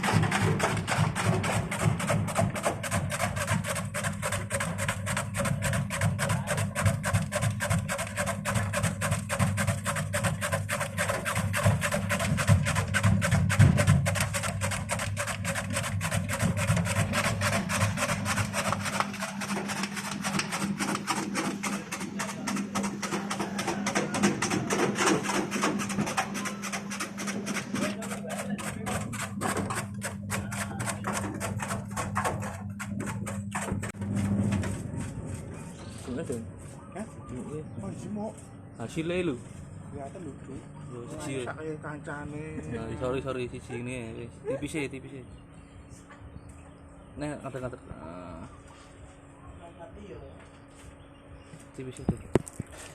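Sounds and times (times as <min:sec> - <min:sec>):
steady motor hum: 0:00.0 - 0:52.9.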